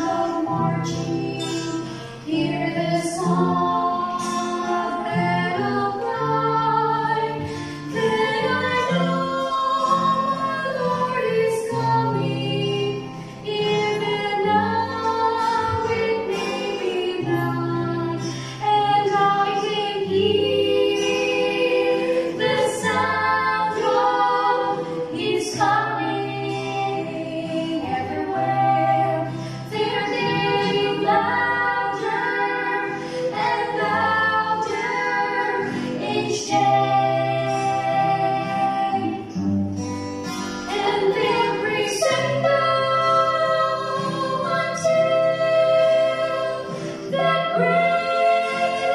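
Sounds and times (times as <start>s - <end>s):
women and man singing: 0.0s - 39.5s, 40.6s - 48.9s
acoustic guitar: 0.0s - 48.9s.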